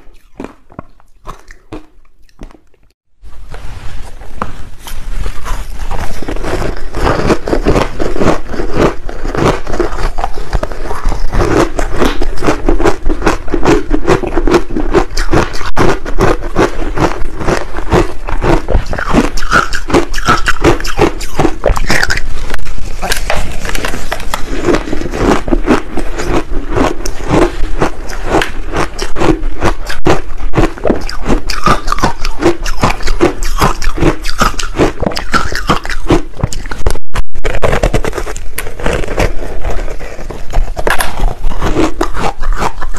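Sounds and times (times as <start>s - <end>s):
crunching ice between teeth: 0.0s - 2.9s, 5.9s - 42.9s.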